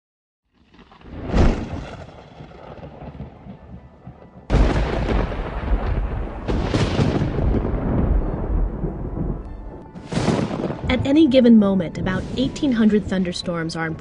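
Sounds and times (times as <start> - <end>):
thunder crack: 0.9 - 13.9
heavy rumble of thunder: 1.1 - 13.4.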